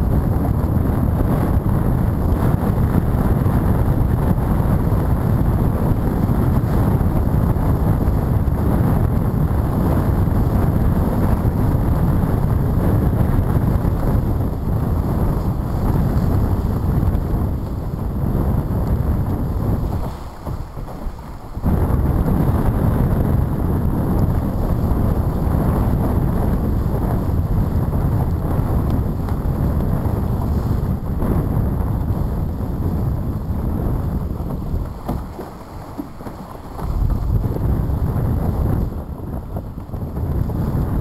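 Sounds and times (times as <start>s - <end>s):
water splashing along hull: 0.0s - 41.0s
wind buffeting microphone: 0.0s - 41.0s.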